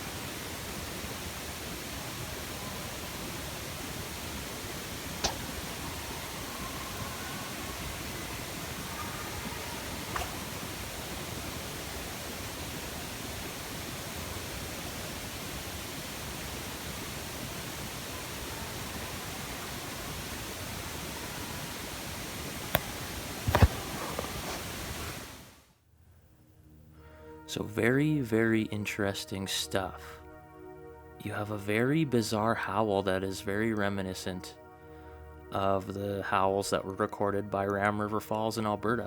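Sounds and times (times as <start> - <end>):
steady outdoor hiss: 0.0 - 39.0.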